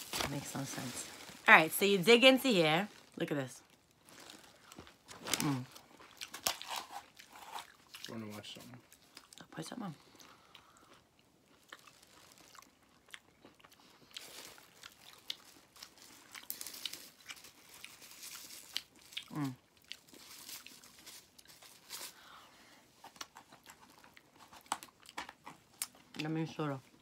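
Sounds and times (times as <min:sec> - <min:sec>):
chewing and crunching fried food: 0:02.8 - 0:27.0.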